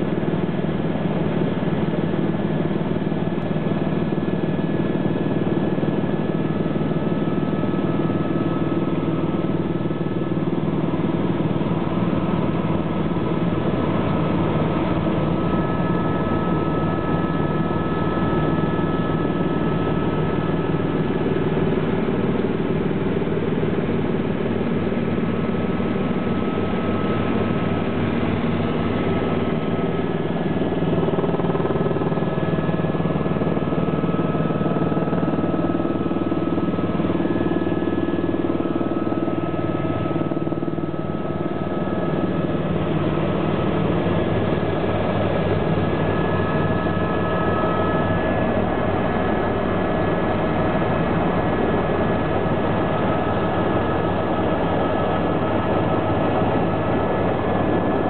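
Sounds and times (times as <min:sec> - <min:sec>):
helicopter turbine drone: 0:00.0 - 0:58.0
high turbine whine: 0:00.0 - 0:58.0.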